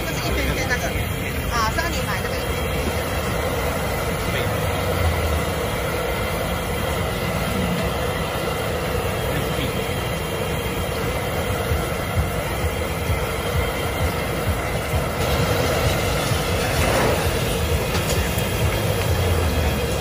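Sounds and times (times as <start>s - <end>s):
moving vehicle rumble and hiss: 0.0s - 20.0s.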